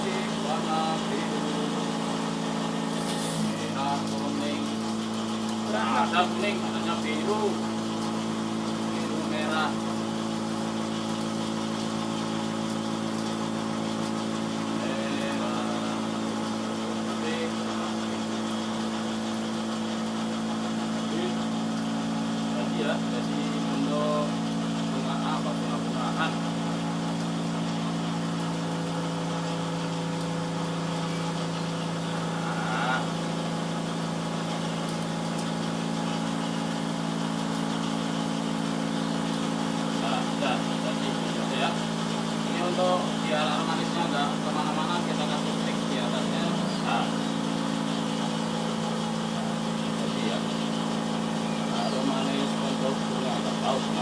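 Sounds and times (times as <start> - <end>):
cotton candy machine humming: 0.0 - 54.0.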